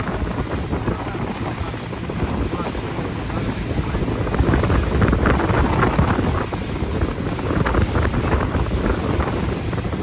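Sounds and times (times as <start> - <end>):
water rushing against hull: 0.0 - 10.0
wind buffeting microphone: 0.0 - 10.0.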